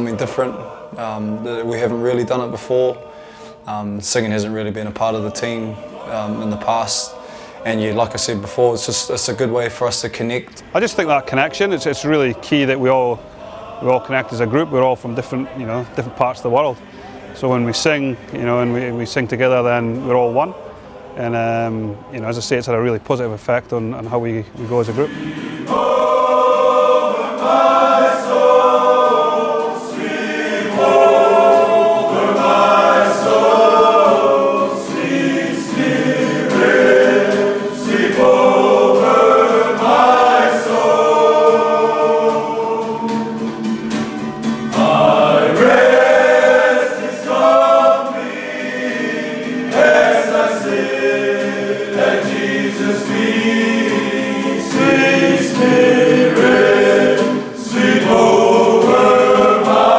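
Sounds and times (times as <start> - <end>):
men singing as a choir: 0.0 - 22.2, 24.6 - 59.9.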